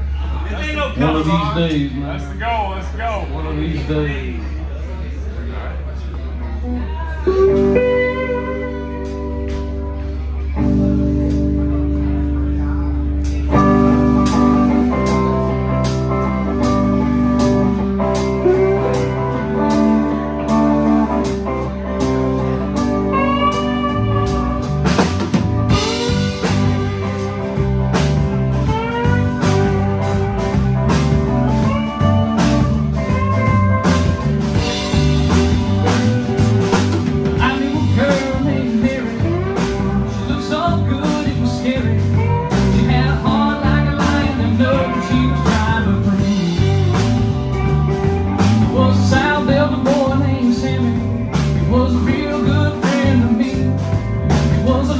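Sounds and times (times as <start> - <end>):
live rock band playing: 6.2 - 54.9
bending lead guitar line: 6.6 - 54.9.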